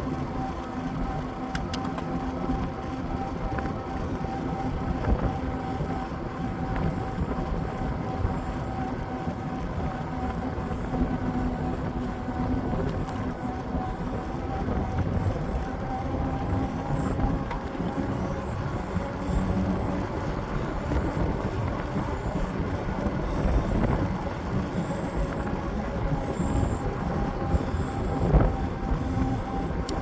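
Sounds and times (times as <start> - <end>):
steady hum: 0.0 - 30.0
wind buffeting microphone: 2.4 - 30.0.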